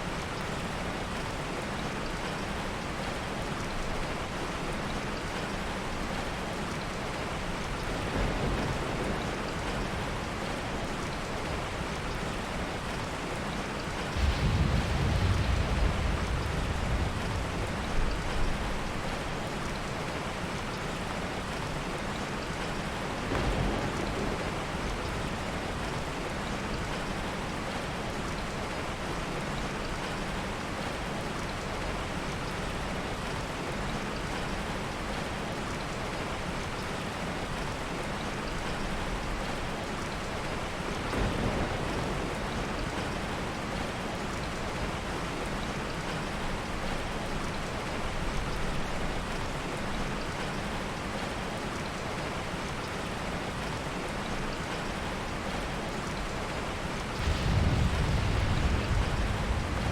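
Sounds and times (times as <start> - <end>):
heavy rain hiss: 5.8 - 34.2, 36.2 - 59.9.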